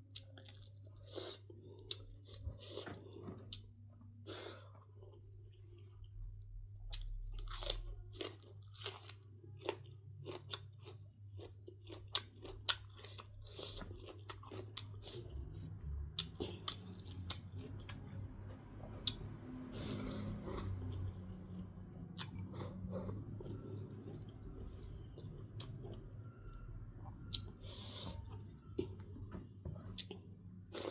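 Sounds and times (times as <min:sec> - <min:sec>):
chewing and crunching food: 0:00.0 - 0:30.9.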